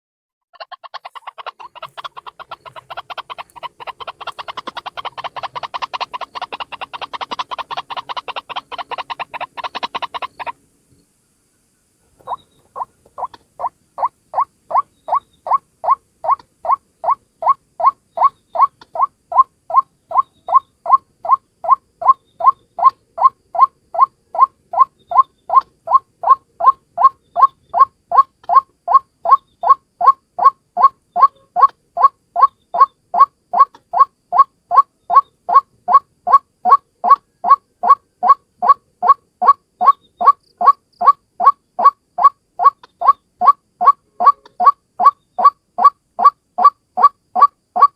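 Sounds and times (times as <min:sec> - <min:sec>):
waterhen croaking calls: 0:00.5 - 0:10.6, 0:12.2 - 0:47.9.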